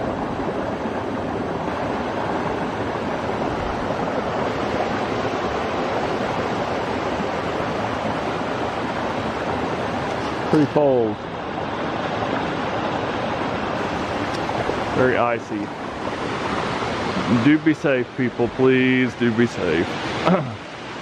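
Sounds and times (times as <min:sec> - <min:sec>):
creek splashing between boulders: 0:00.0 - 0:21.0
waterfall rushing: 0:00.0 - 0:21.0.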